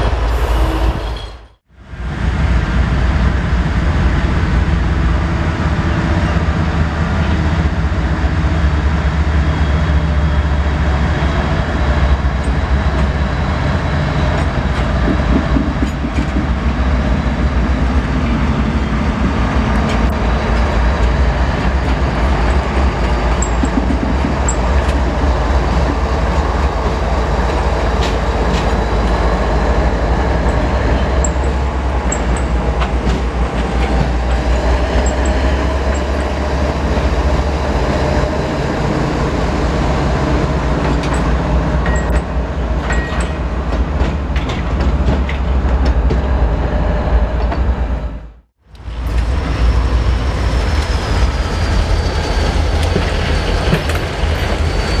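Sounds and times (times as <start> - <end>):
wheel and rail noise: 3.3 - 55.0.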